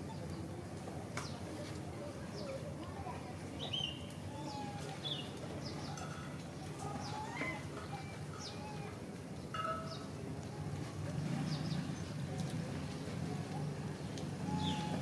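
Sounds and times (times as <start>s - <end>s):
low background murmur: 0.0s - 15.0s.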